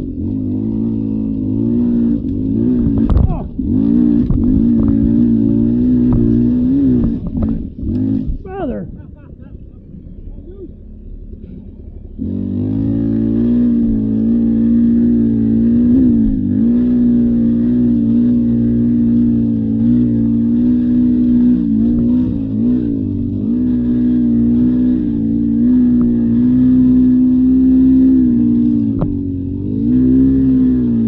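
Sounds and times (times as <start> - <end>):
dirt bike two-stroke engine: 0.0 - 31.0.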